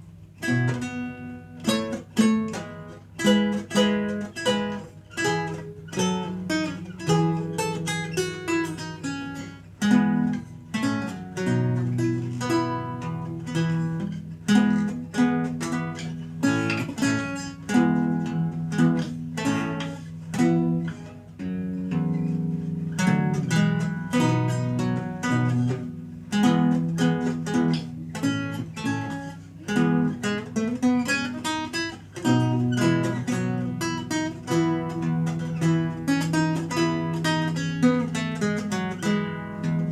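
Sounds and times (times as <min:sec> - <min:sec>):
solo lute playing: 0:00.0 - 0:39.9.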